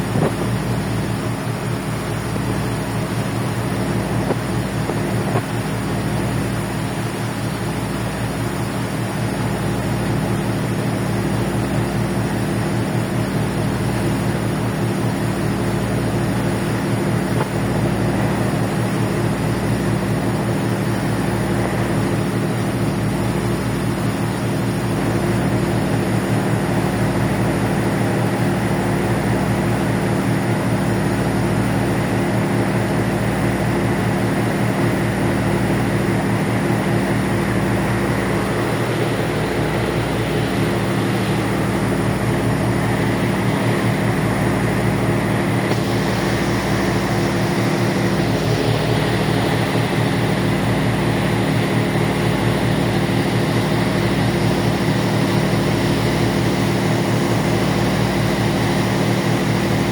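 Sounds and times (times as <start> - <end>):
constant rushing noise: 0.0 - 59.9
ferry engines droning: 0.0 - 59.9.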